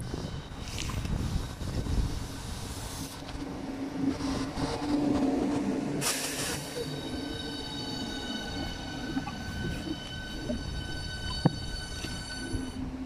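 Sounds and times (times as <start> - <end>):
electric train hum: 0.0 - 13.0
high steady whining tones: 0.0 - 13.0.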